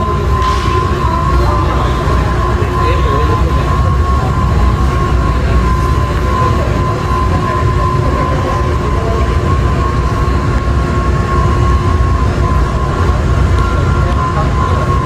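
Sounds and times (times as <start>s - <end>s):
constant whine: 0.0s - 15.0s
low machinery rumble: 0.0s - 15.0s.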